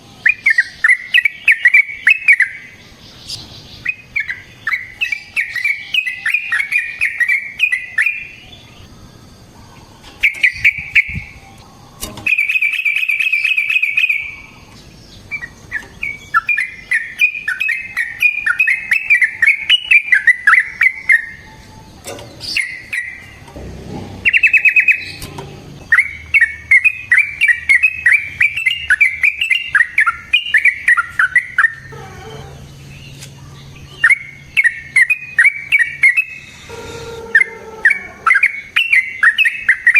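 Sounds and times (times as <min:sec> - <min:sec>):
fast bird trill: 0:00.0 - 0:08.9, 0:10.2 - 0:11.4, 0:12.3 - 0:14.6, 0:15.2 - 0:21.8, 0:22.4 - 0:23.5, 0:24.2 - 0:39.9
bulbul chattering song: 0:00.0 - 0:39.9.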